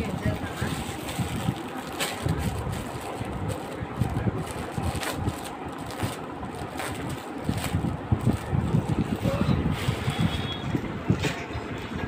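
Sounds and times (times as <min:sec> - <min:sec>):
plastic packaging crackling: 0:00.0 - 0:10.4
low rumbling wind buffeting: 0:00.0 - 0:12.0.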